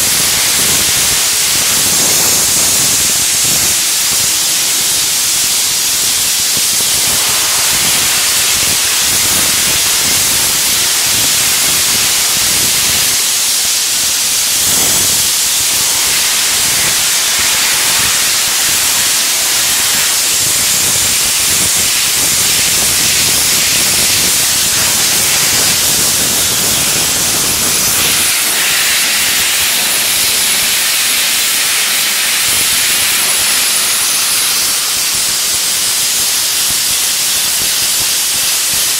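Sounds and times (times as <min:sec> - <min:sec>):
blast gun spraying hiss: 0:00.0 - 0:38.9.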